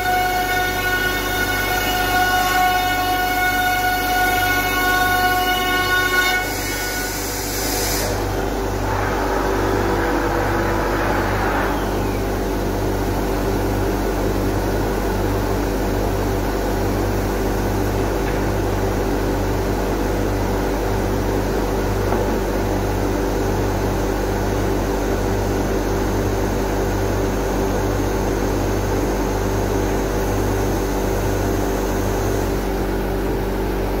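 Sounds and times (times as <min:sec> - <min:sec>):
router humming and throbbing: 0:00.0 - 0:34.0.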